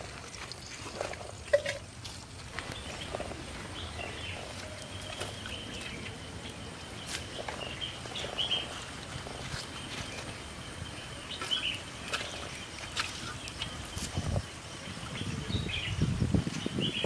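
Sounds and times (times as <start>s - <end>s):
outdoor ambience hiss: 0.0s - 17.0s
birds chirping: 2.5s - 17.0s.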